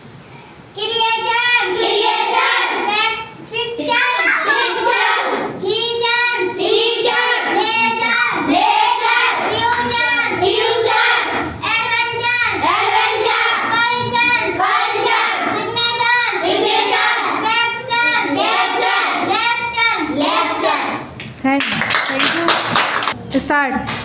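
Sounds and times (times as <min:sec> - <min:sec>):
children chanting sing-song: 0:00.8 - 0:21.1.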